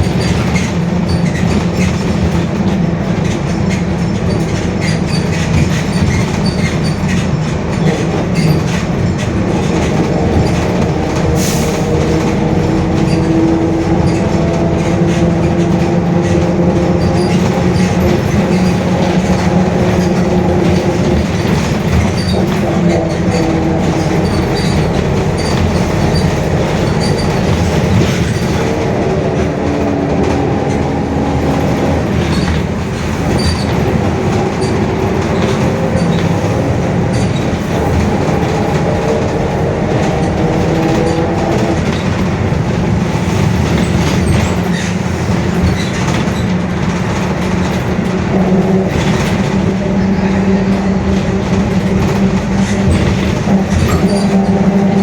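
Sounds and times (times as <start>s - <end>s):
diesel bus engine rumbling: 0.0s - 55.0s.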